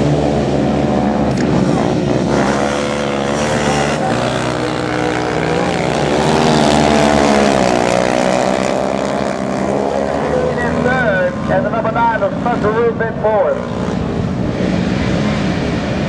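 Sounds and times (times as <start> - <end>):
quad engines revving: 0.0 - 16.0.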